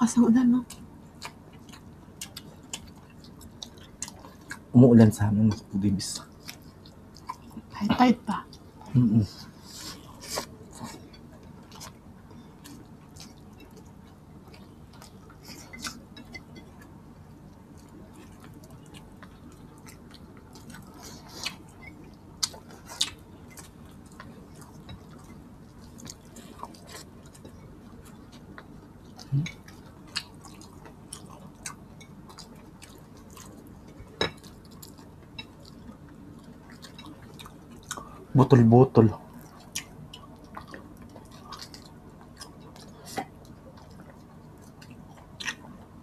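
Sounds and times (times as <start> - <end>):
low background hum: 0.0 - 46.0
chewing and lip smacks: 0.7 - 4.7, 10.1 - 38.2, 39.2 - 46.0.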